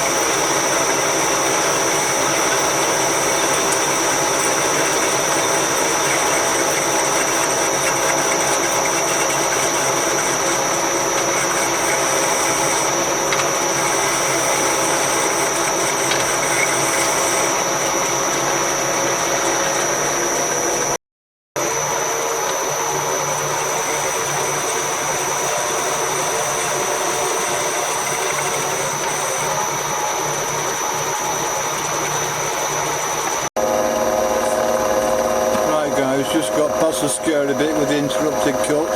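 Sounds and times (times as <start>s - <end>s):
metal lathe whining: 0.0s - 21.0s, 21.6s - 38.9s.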